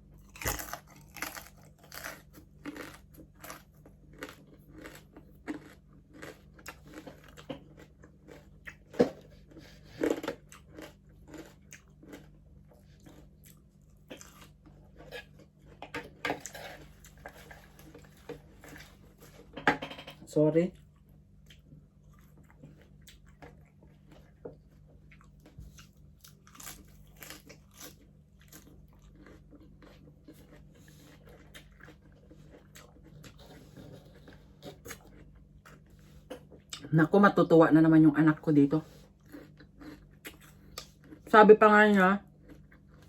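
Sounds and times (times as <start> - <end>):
chewing crispy pork: 0.0 - 19.4, 20.7 - 37.4, 38.1 - 43.0
faint steady hum: 0.0 - 43.0.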